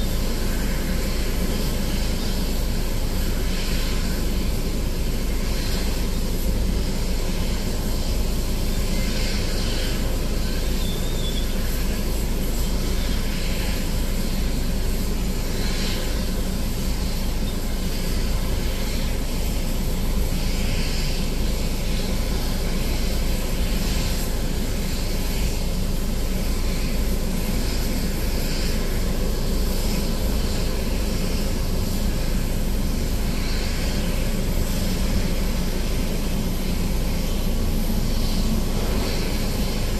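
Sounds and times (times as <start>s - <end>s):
rushing hiss: 0.0s - 39.9s.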